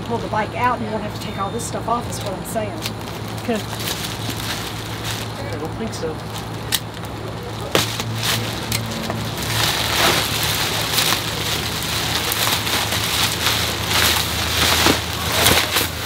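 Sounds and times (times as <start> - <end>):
plastic bag and foam crinkling: 0.0 - 16.0.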